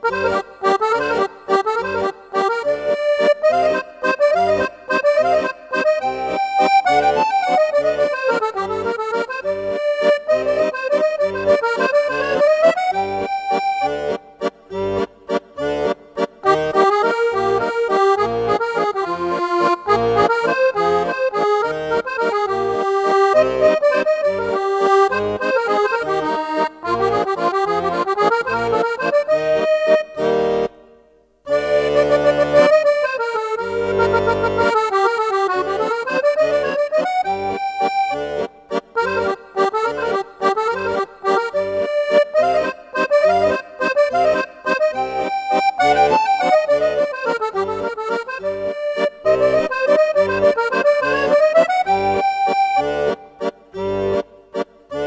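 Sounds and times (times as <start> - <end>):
instrumental music with bouncy beat: 0.0 - 55.0.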